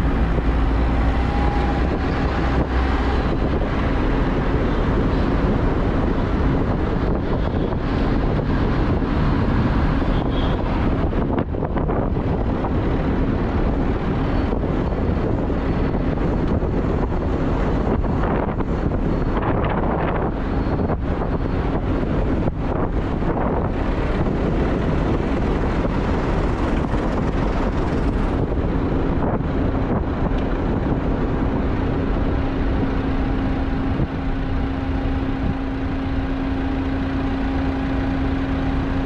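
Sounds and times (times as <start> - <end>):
car road and wind noise: 0.0 - 39.0
wind buffeting microphone: 0.0 - 39.0.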